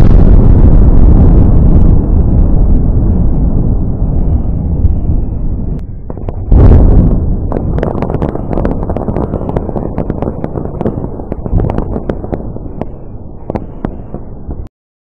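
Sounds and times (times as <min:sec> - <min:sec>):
firework crackles: 0:00.0 - 0:14.7
low rumble: 0:00.0 - 0:14.7.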